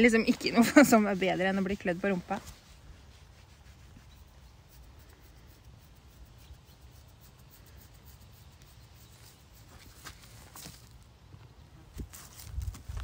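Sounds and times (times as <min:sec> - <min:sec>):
fingers scratching horse coat: 0:00.0 - 0:11.0.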